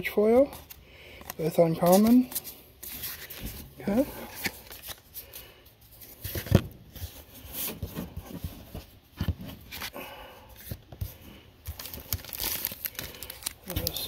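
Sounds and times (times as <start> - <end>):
cards rustling: 0.0 - 10.0, 10.6 - 14.0.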